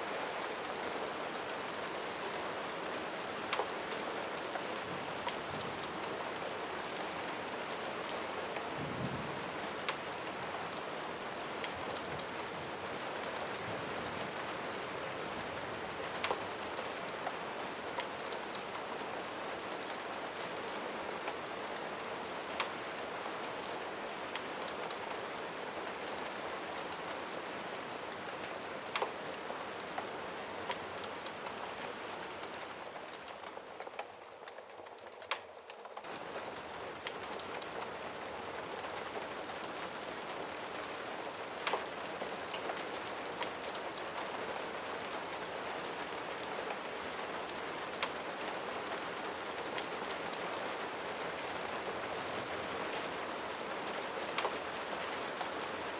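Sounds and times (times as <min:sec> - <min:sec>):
rain falling on a surface: 0:00.0 - 0:55.9.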